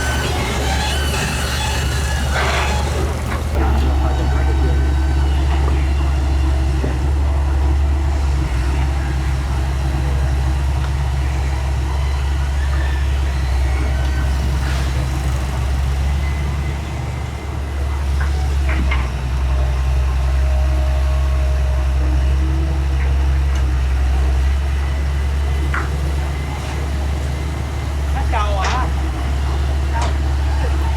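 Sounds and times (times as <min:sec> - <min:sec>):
diesel engine humming: 0:00.0 - 0:30.9.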